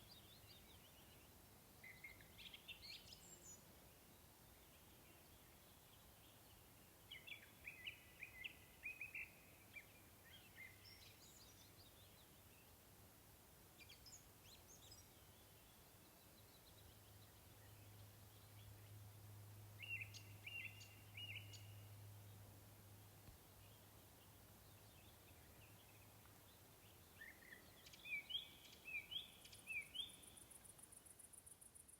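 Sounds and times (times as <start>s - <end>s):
faint low hum: 0.0s - 31.9s
songbird chirps and trills: 0.0s - 31.9s.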